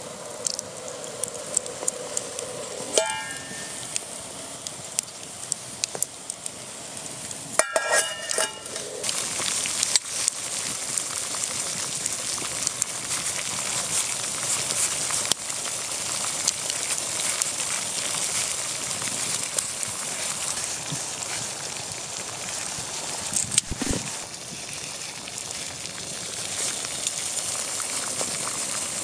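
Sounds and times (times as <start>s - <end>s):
campfire crackling with pops: 0.0s - 29.0s
sizzling hiss: 0.0s - 29.0s.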